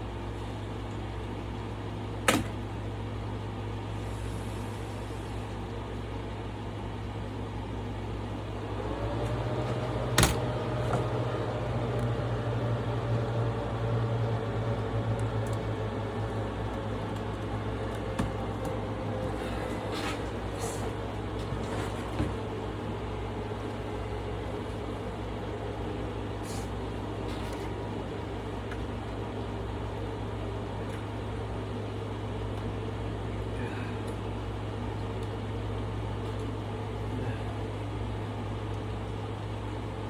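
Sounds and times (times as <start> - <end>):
server cooling fans humming: 0.0 - 40.0.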